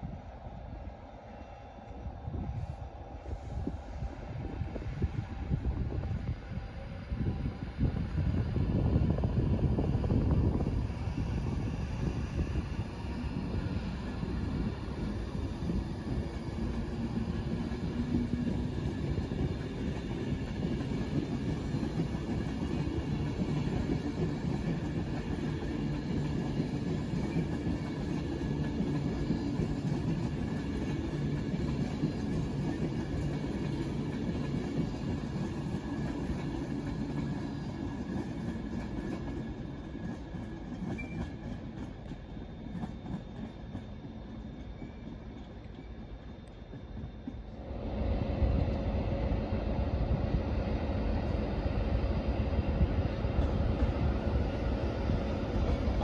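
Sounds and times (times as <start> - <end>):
train carriages on rails: 8.7 - 49.9, 50.8 - 56.0.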